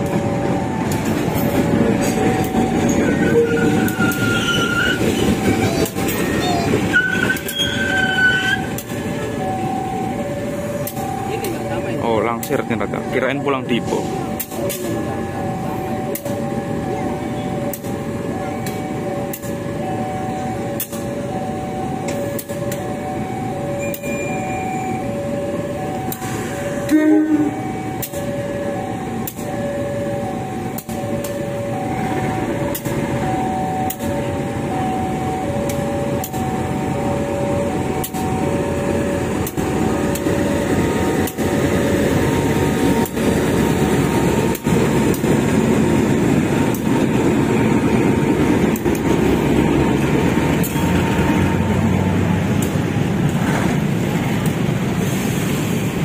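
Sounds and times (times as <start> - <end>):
level crossing alarm two tones: 0.0 - 52.3
locomotive engine and wheels: 0.0 - 56.0.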